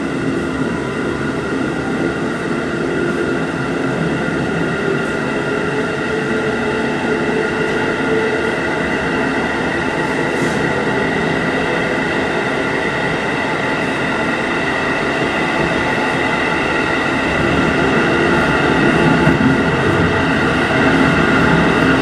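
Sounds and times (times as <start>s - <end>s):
steady train tones: 0.0s - 22.0s
train wheels rumbling on rail: 0.0s - 22.0s.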